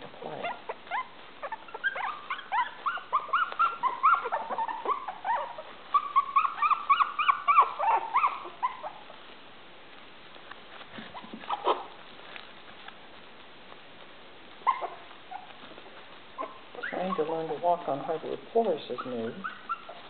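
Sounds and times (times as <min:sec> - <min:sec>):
puppies yipping and whining: 0:00.0 - 0:09.4, 0:10.7 - 0:12.7, 0:14.5 - 0:20.0.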